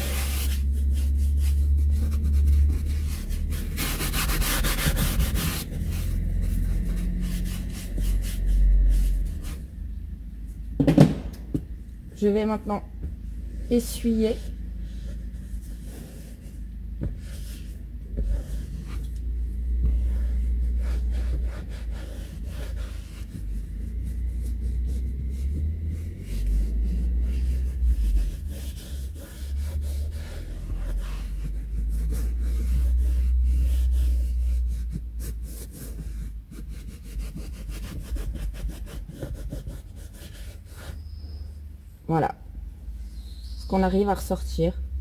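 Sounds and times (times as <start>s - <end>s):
cloth rubbing on leather seat: 0.0s - 9.8s, 14.2s - 41.0s
low rumble: 0.0s - 45.0s.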